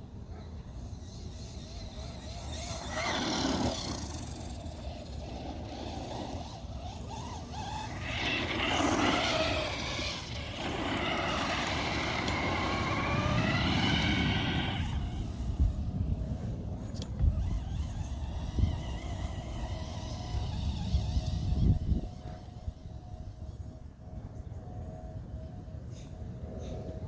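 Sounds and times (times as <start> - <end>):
electric motor whining: 0.8 - 23.6.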